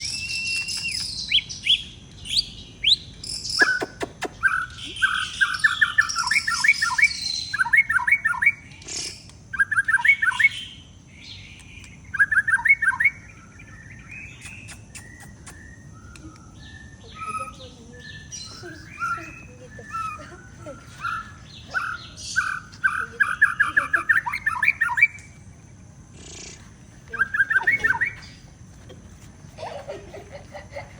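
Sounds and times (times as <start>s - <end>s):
songbird whistling: 0.0s - 25.4s, 26.3s - 28.5s.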